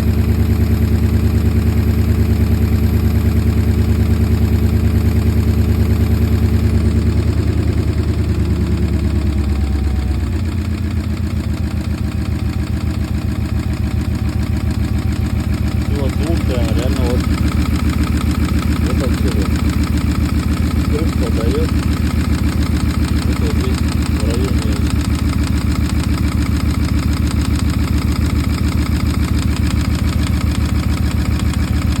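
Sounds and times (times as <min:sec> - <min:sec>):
car engine idling with knock: 0:00.2 - 0:32.0.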